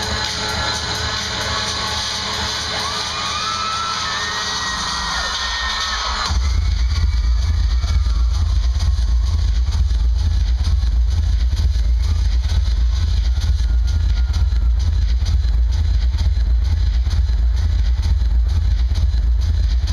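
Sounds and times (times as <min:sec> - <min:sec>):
electronic dance music deep bass: 0:00.0 - 0:19.9.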